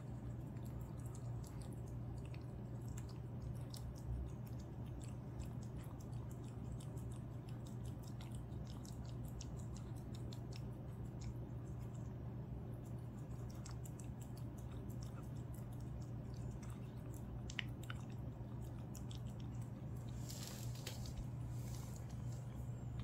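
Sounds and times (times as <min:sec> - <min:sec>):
cat chewing and lapping: 0:00.0 - 0:23.0
low hum: 0:00.0 - 0:23.0.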